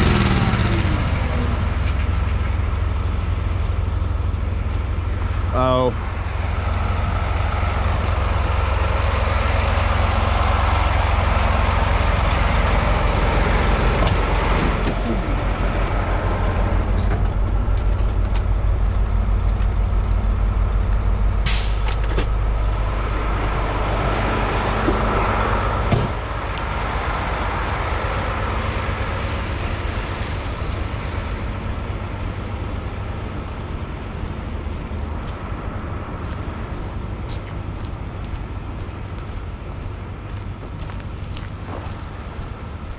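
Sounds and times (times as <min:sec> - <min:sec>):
diesel truck engine rumbling: 0:00.0 - 0:42.9.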